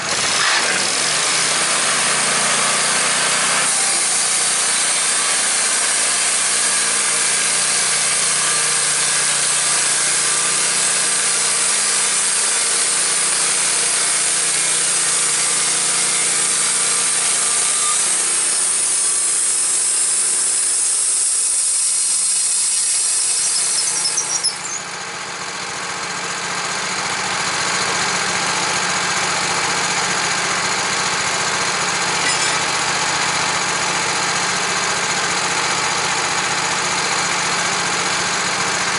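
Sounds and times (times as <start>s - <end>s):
gas saw cutting through log: 0.0s - 25.0s, 29.2s - 36.4s.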